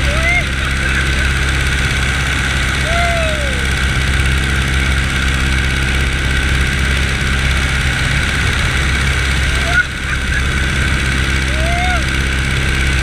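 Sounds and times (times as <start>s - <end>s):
propeller engine droning: 0.0s - 13.0s.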